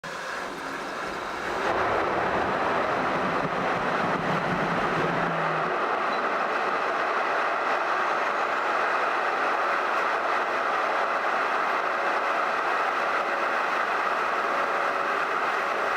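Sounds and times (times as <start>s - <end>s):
jet airliner taking off: 0.1s - 15.9s.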